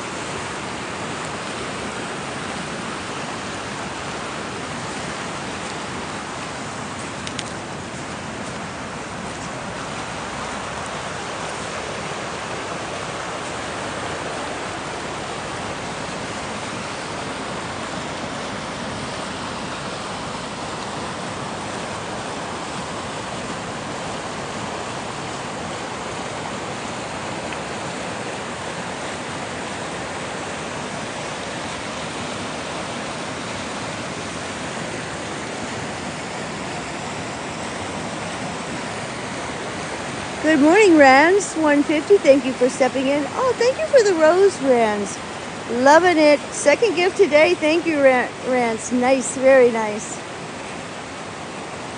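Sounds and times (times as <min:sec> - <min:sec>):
river rushing: 0:00.0 - 0:51.9.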